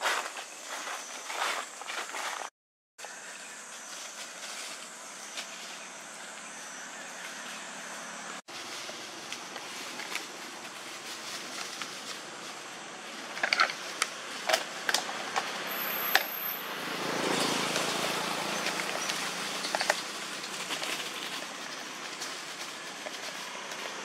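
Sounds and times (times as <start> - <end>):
dry leaves rustling: 3.0 - 24.0.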